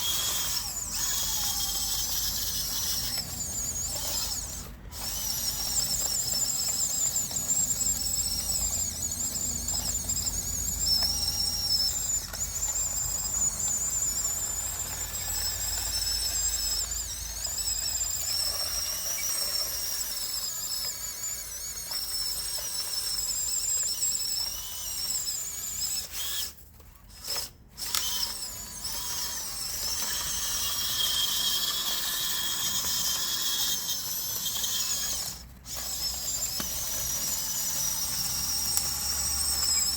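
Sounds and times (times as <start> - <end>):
whine of small electric motors: 0.0 - 39.9.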